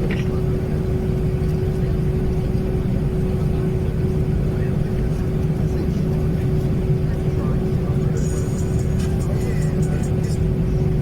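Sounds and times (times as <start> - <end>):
airplane cabin rumble: 0.0 - 11.0
constant hum: 0.0 - 11.0.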